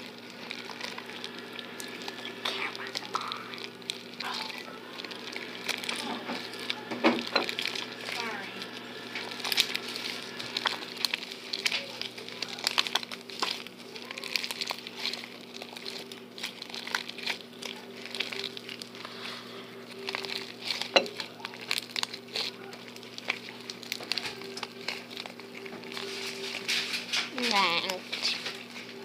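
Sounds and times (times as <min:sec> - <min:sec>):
slime squishing and popping: 0:00.0 - 0:08.4, 0:09.0 - 0:19.2, 0:19.8 - 0:28.9
steady low hum: 0:00.0 - 0:29.0.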